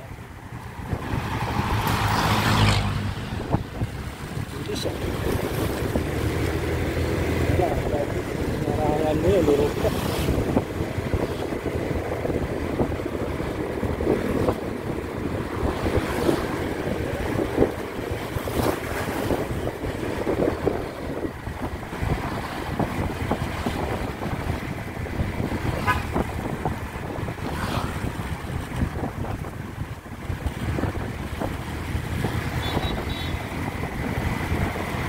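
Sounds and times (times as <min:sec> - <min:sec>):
motorcycle running: 0:00.0 - 0:35.0
road noise: 0:00.0 - 0:35.0
wind buffeting microphone: 0:00.0 - 0:35.0.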